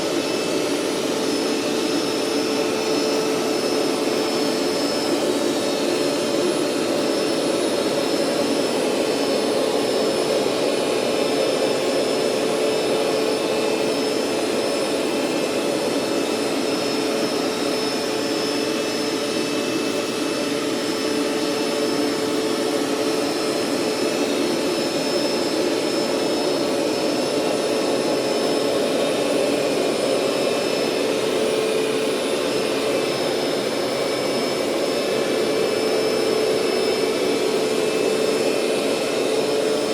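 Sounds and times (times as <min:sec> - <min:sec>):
carpet cleaner running: 0:00.0 - 0:39.9.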